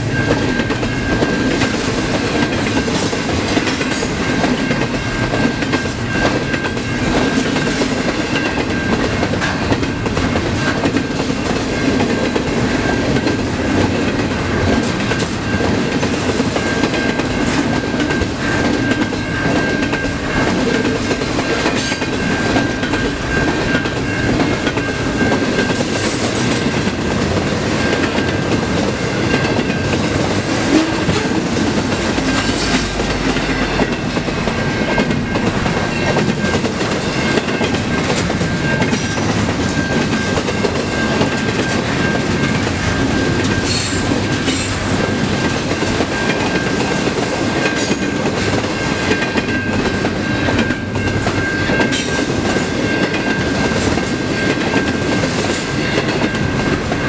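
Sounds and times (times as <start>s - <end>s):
train wheels rumbling and clacking: 0.0s - 57.0s.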